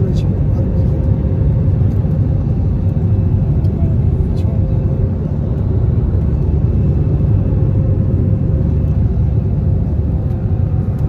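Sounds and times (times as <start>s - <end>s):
jet engine cabin rumble: 0.0s - 11.0s.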